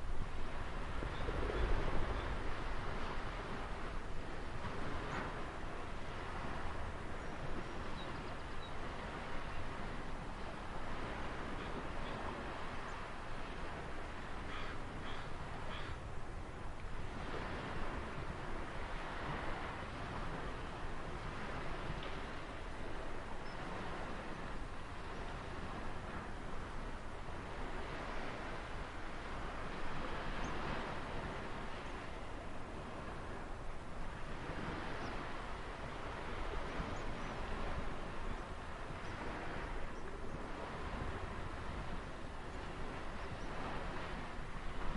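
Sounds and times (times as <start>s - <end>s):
ocean surf washing: 0.0s - 44.9s.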